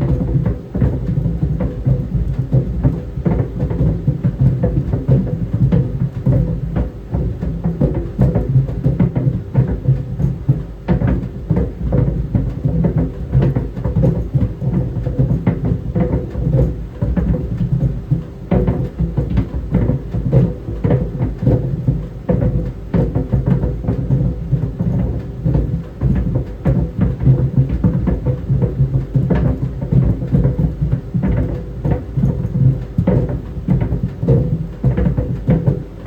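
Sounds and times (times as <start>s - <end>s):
balls thumping in dryer drum: 0.0s - 36.0s.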